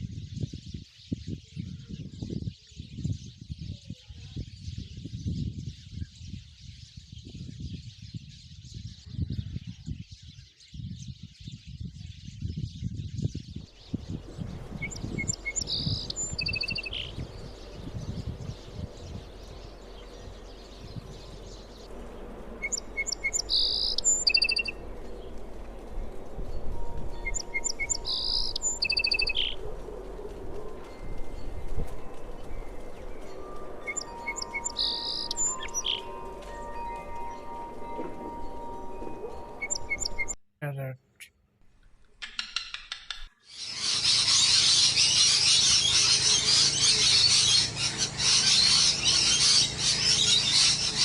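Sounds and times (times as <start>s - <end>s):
sparrows chattering: 0.0s - 25.4s, 27.2s - 29.7s, 32.3s - 37.7s, 43.4s - 51.0s.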